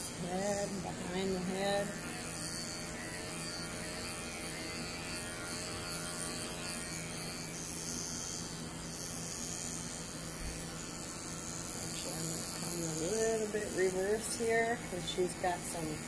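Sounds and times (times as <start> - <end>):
electric clippers humming: 0.0 - 16.0.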